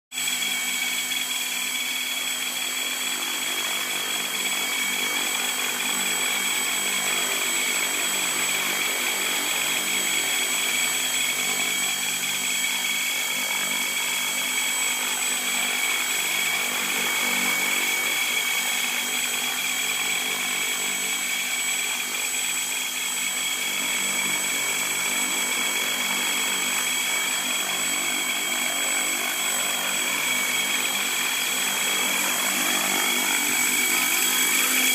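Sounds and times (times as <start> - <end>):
rc helicopter mechanical hum: 0.2 - 34.9.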